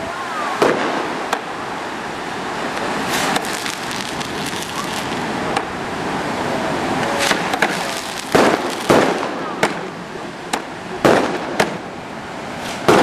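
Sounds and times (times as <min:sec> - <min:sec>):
fireworks bursting with bangs: 0:00.6 - 0:05.8, 0:06.8 - 0:13.0
steady hiss: 0:00.6 - 0:13.0.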